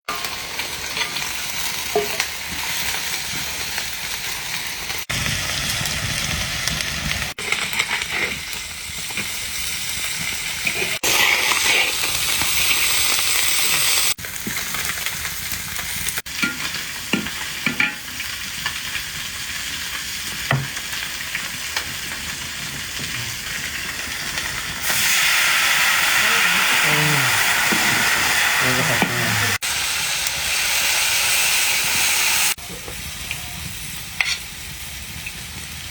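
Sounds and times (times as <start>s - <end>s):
food sizzling in a pan: 0.1s - 35.9s.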